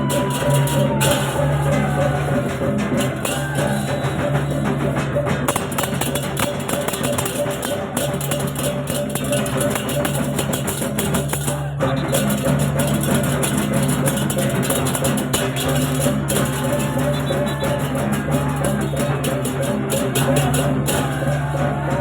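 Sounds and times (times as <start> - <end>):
clattering cymbals: 0.0 - 22.0
gamelan ensemble music: 0.0 - 22.0.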